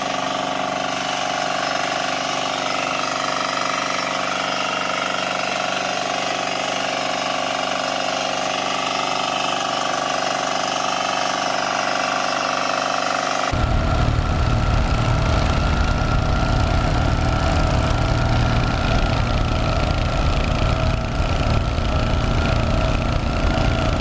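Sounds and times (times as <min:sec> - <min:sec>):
deep loud engine: 0:00.0 - 0:24.0
small tractor engine running: 0:00.0 - 0:24.0.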